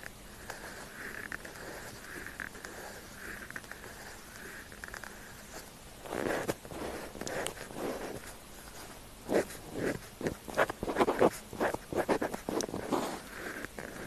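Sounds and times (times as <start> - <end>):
pen scratching on paper: 0.0 - 14.0.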